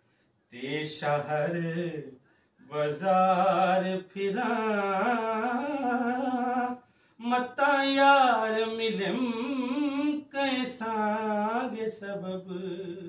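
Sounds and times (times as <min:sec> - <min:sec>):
man singing melismatic notes: 0:00.6 - 0:02.1, 0:02.7 - 0:13.0.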